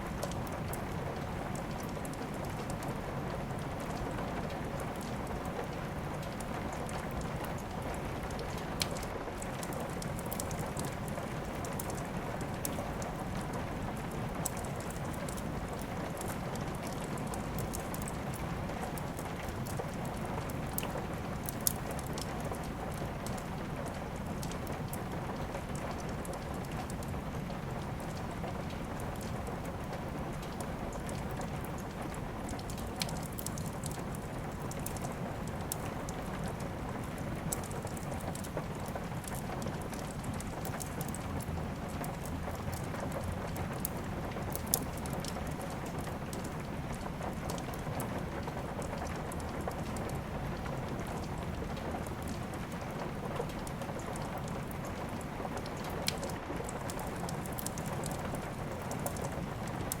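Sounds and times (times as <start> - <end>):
steady rain: 0.0 - 60.0
wood fire crackling: 0.1 - 60.0.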